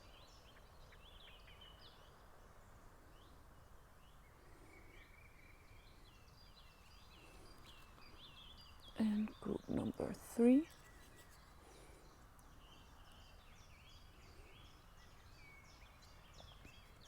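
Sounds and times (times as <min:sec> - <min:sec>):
faint birds chirping: 0:00.0 - 0:17.0
low background noise: 0:00.0 - 0:17.0.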